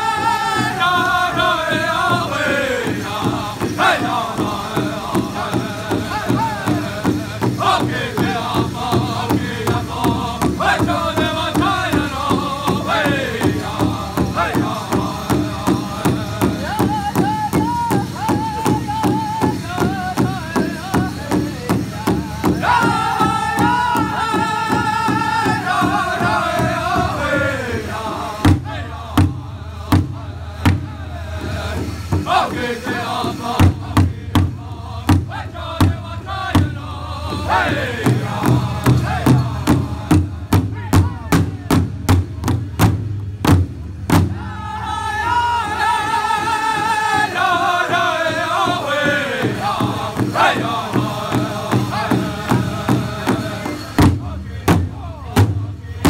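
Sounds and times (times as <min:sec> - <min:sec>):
group singing in high voices: 0:00.0 - 0:41.6, 0:44.1 - 0:56.0
large drum beaten with sticks: 0:00.0 - 0:56.0.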